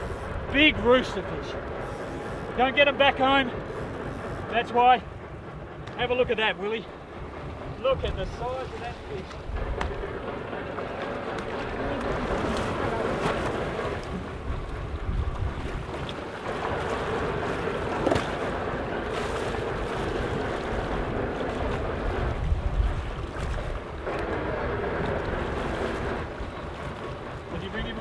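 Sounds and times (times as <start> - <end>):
water splashing against hull: 0.0 - 28.0
wind rumbling on microphone: 0.0 - 28.0.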